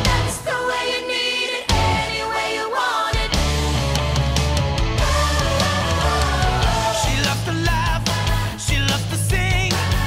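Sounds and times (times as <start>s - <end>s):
rock song with singing: 0.0s - 10.0s.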